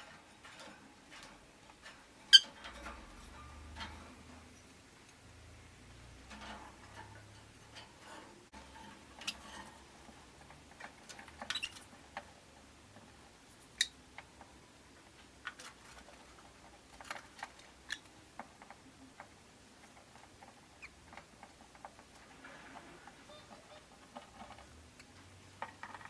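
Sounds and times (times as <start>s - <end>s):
lovebirds clicking and tapping: 0.0s - 5.2s, 6.2s - 26.0s.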